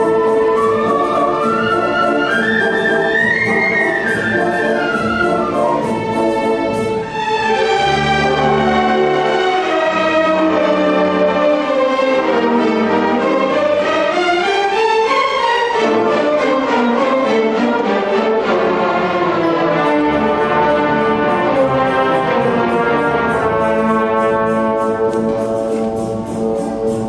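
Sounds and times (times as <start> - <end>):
orchestra playing: 0.0 - 27.0
violin melody: 0.0 - 27.0.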